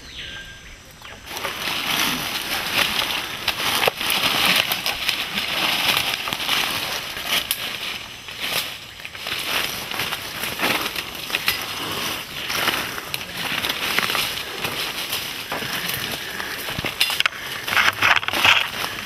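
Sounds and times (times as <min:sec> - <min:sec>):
dry leaves and twigs crackling: 0:00.0 - 0:19.0
twigs snapping: 0:00.9 - 0:19.0.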